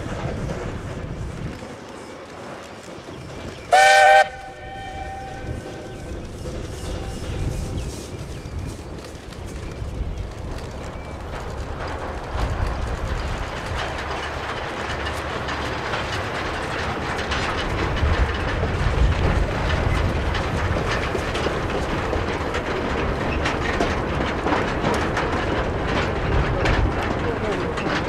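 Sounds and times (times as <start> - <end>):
steam train rumble: 0.0 - 28.0
wheels clicking over rail joints: 0.0 - 28.0.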